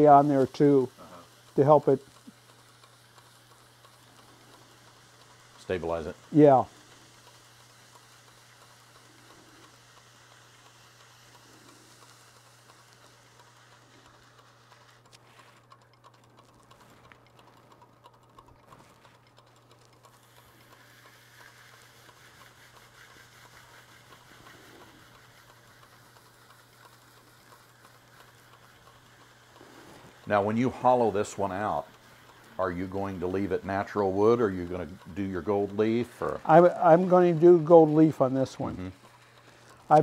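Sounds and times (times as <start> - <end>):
lathe low hum: 0.0 - 40.0.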